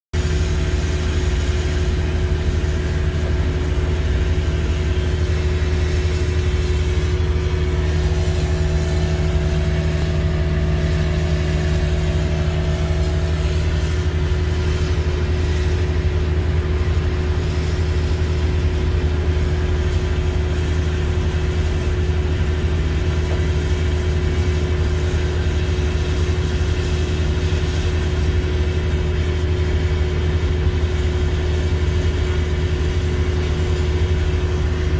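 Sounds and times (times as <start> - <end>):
drilling rig engine drone: 0.2 - 34.9.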